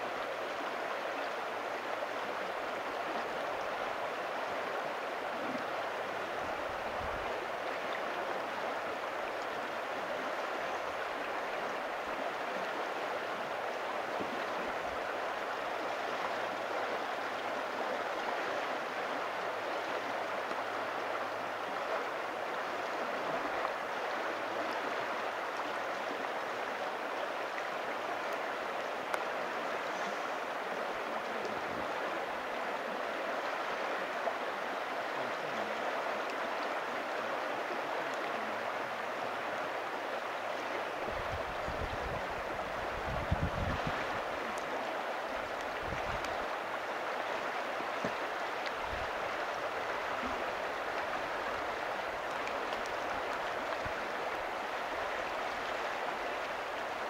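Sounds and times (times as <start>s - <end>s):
river water rushing over gravel: 0.0s - 57.0s.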